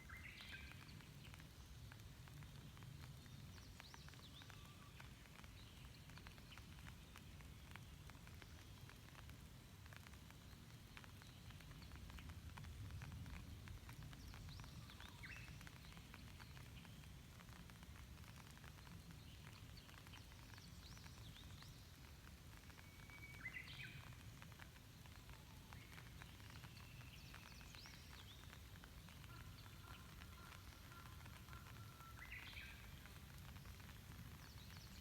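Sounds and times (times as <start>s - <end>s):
light rain drops ticking: 0.0s - 35.0s.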